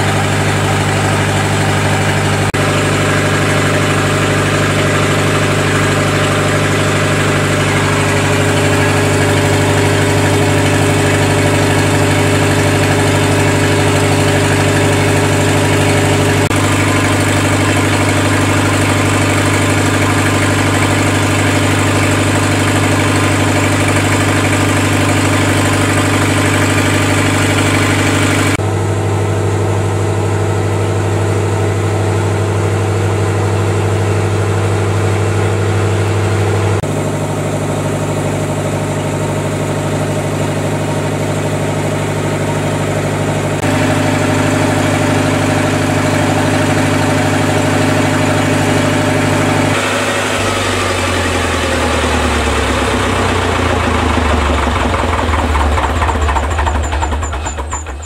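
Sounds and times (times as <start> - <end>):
diesel generator droning: 0.0 - 58.0.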